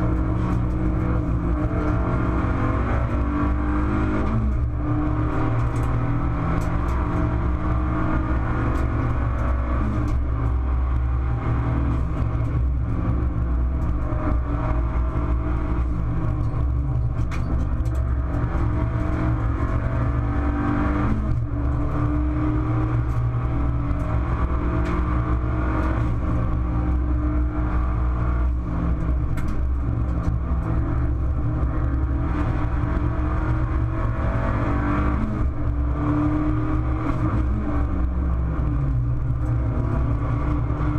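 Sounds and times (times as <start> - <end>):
race car engine revving: 0.0 - 40.9
road and tyre noise: 0.0 - 40.9.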